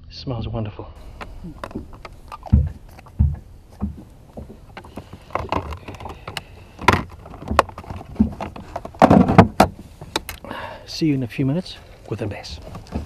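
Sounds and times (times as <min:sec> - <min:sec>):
hands handling fishing gear: 0:01.0 - 0:13.0.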